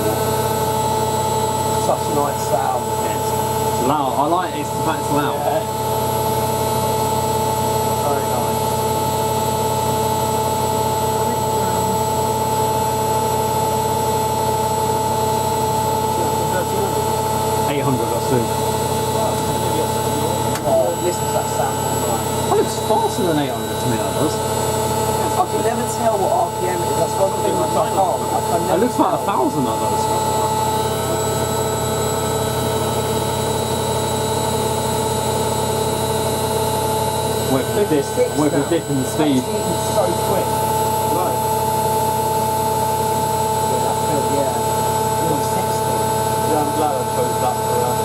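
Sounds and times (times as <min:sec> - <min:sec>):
washing machine motor whine: 0:00.0 - 0:48.0.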